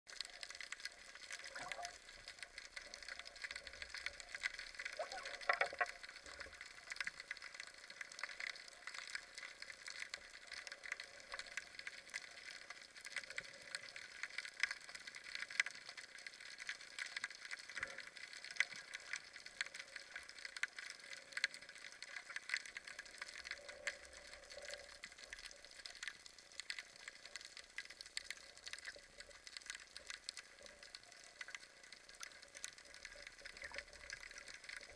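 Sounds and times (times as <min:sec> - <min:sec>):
underwater crackle of clicks: 0:00.1 - 0:34.9.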